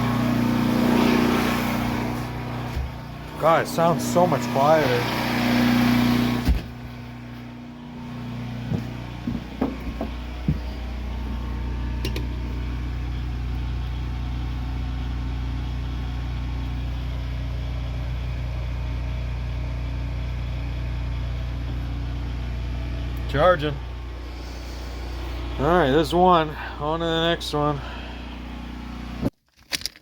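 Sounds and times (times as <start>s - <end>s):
generator engine humming: 0.0s - 29.3s.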